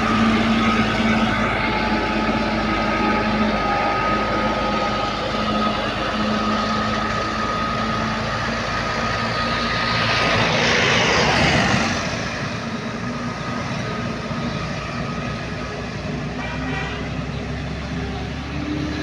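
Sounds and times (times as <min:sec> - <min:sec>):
truck engine climbing hard: 0:00.0 - 0:19.0.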